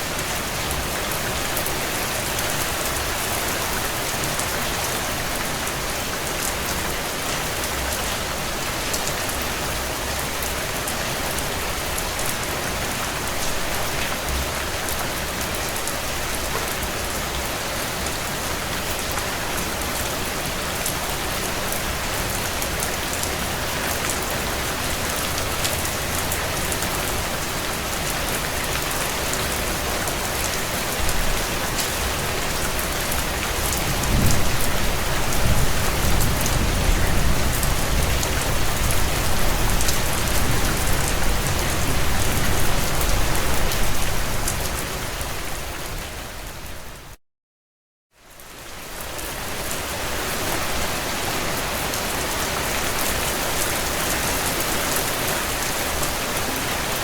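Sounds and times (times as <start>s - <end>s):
heavy rain on a tin roof: 0.0s - 47.2s, 48.2s - 57.0s.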